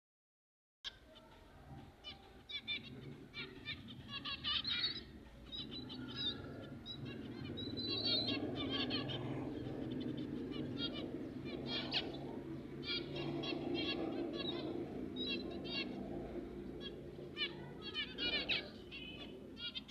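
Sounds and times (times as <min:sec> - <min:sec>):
baby finches chirping: 0:00.9 - 0:19.9
low steady background noise: 0:00.9 - 0:19.9.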